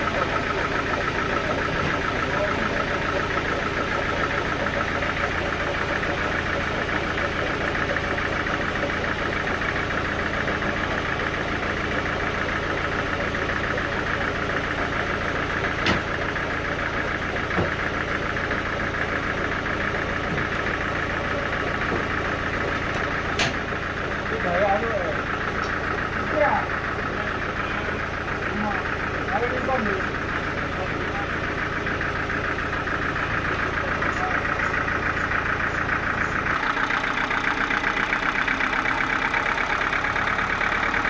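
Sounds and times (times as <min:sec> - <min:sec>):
engine running steadily: 0:00.0 - 0:41.0.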